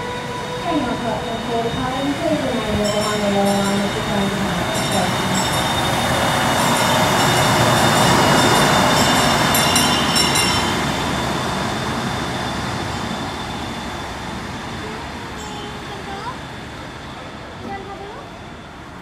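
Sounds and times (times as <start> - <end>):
diesel railcar passing: 0.0 - 19.0.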